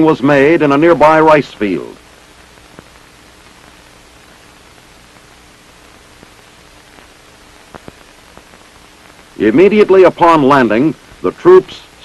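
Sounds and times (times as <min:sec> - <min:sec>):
faint steady hum: 0:00.0 - 0:12.0
film soundtrack hiss: 0:00.0 - 0:12.0.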